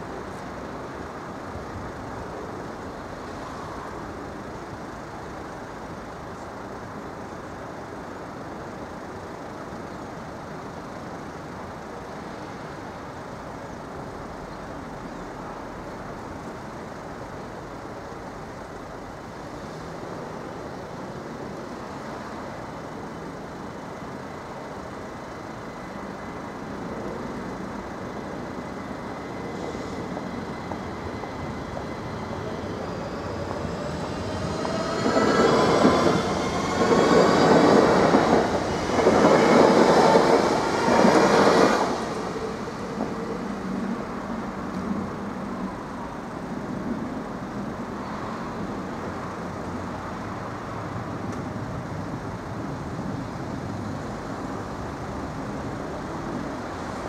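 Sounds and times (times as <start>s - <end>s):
street and traffic noise: 0.0s - 57.0s.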